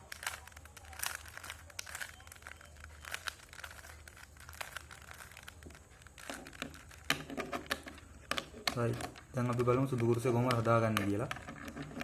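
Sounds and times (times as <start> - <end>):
puzzle cube clicking: 0.0 - 12.0.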